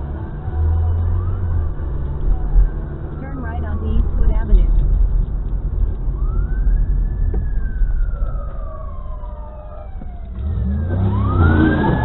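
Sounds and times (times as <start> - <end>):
car engine and tyres rumble: 0.0 - 12.0
heavier engine: 0.0 - 12.0
police siren wailing: 0.1 - 4.8, 6.0 - 12.0.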